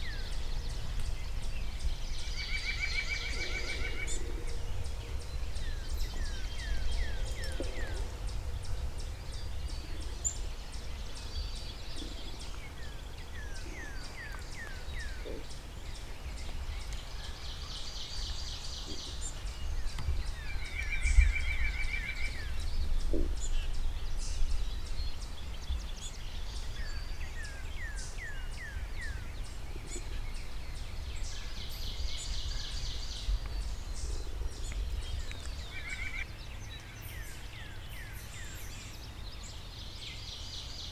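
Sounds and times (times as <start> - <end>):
low rumble of wind: 0.0 - 40.9.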